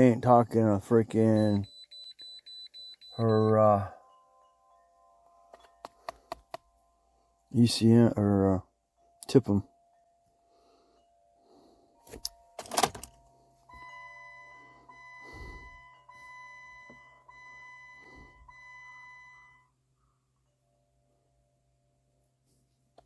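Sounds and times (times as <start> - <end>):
car warning chime: 0.0 - 22.3.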